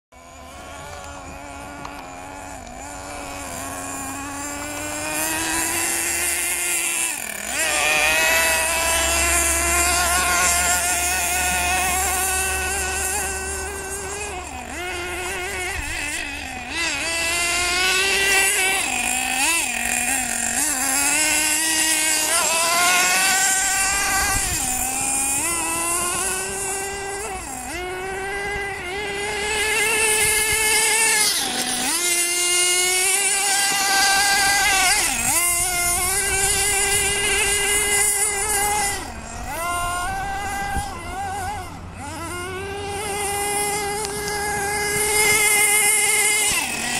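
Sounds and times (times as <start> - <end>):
remote control car engine buzzing: 0.1 - 46.9.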